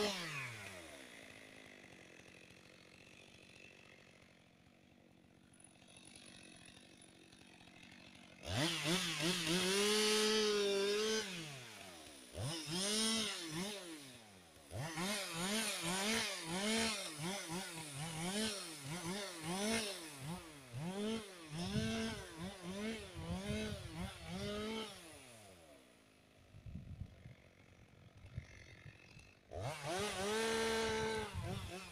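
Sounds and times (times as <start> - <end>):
chainsaw revving: 0.0 - 31.9.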